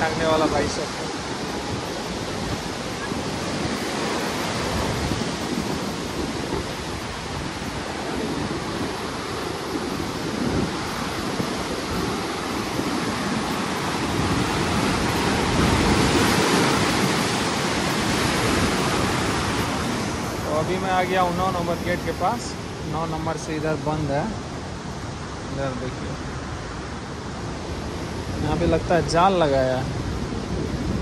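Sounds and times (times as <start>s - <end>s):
water rushing through sluice gates: 0.0s - 29.9s.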